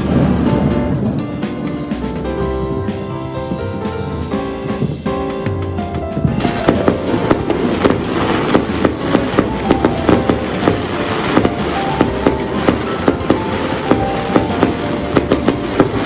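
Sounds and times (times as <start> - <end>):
firecrackers cracking and popping: 0.0 - 2.1, 4.7 - 16.0.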